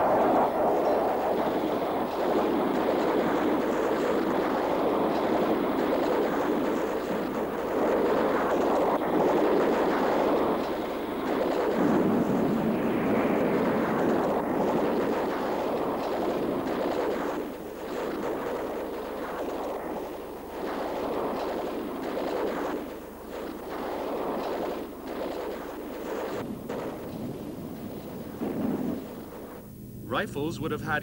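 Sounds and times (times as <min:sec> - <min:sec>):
jet aircraft flying over: 0:00.0 - 0:31.0.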